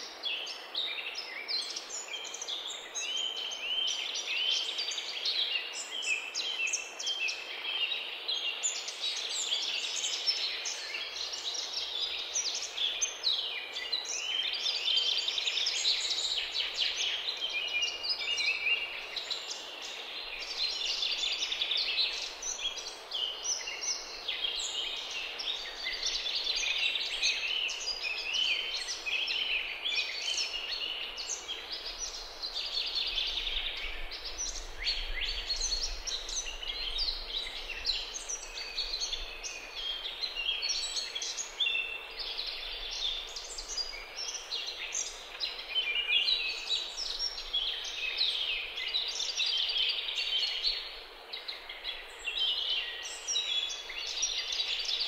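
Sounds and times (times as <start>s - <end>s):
birds chirping densely: 0.0s - 55.0s.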